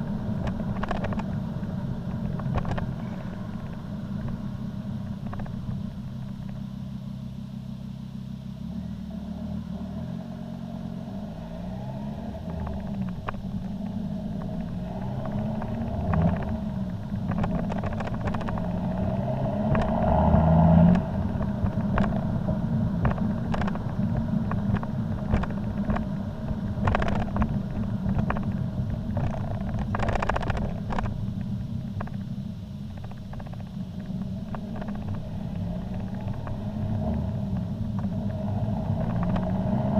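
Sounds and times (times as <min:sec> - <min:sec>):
diesel engine exhaust note: 0:00.0 - 0:39.9.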